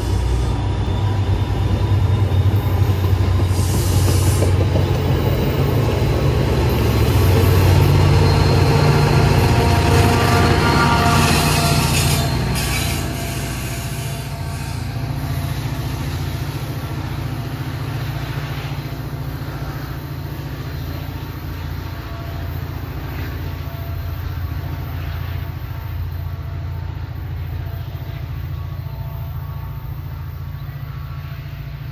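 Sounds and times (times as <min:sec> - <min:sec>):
diesel locomotive engine rumbling: 0:00.0 - 0:31.9.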